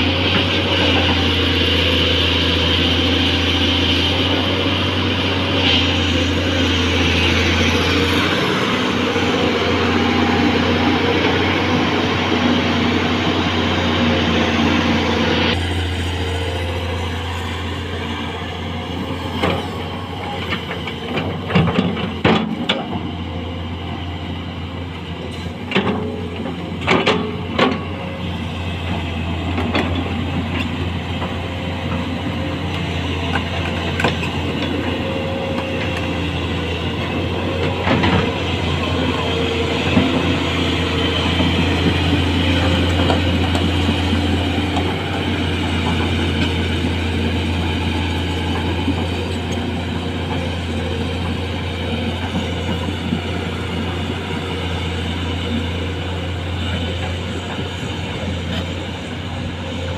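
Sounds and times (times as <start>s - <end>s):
excavator engine humming: 0.0s - 59.9s.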